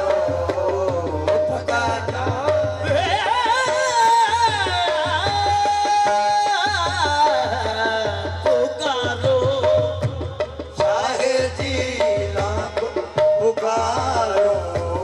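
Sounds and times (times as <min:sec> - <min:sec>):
harmonium: 0:00.0 - 0:15.0
tabla strokes: 0:00.0 - 0:15.0.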